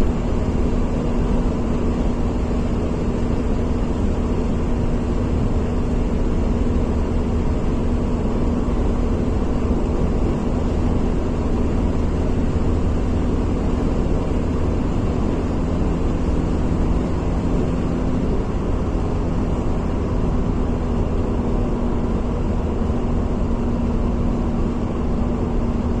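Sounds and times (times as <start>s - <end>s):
low mechanical drone: 0.0s - 26.0s.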